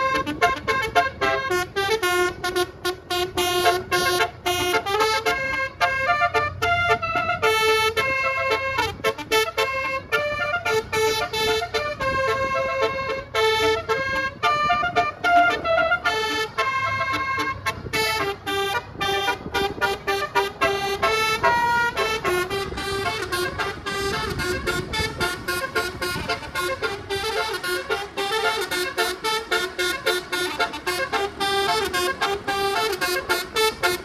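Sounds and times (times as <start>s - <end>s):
bus horn tooting melody: 0.0s - 34.0s
low engine hum: 0.0s - 34.0s.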